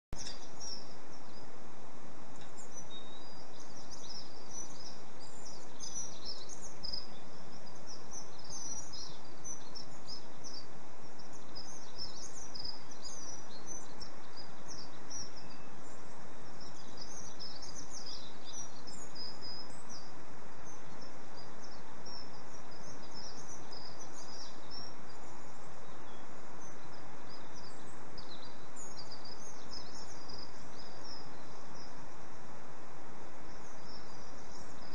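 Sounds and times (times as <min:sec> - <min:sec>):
songbirds chirping: 0:00.1 - 0:34.9
steady outdoor hiss: 0:00.1 - 0:34.9.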